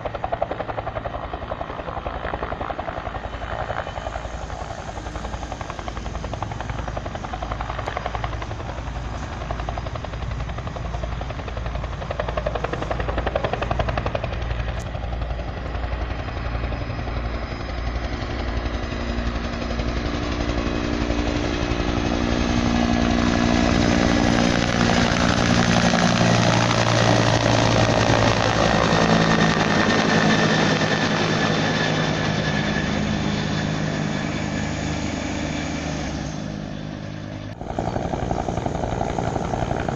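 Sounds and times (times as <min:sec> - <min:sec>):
helicopter rotor beating: 0:00.0 - 0:39.9
turbine whine: 0:00.0 - 0:39.9.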